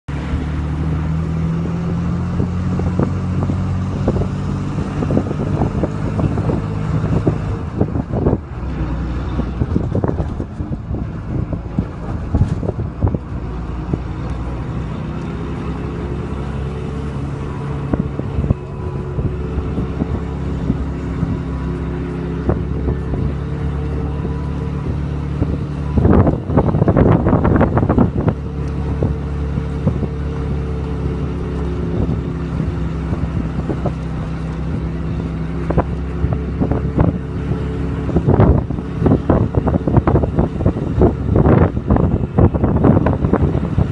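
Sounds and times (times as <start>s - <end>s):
vehicle engine hum: 0.0s - 43.9s.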